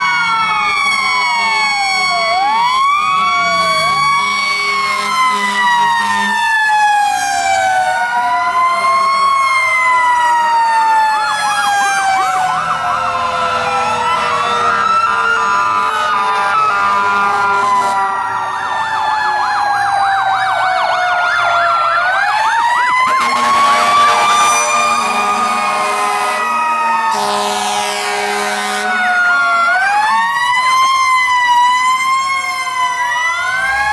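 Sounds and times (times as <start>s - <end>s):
electronic sirens wailing and yelping: 0.0s - 33.9s.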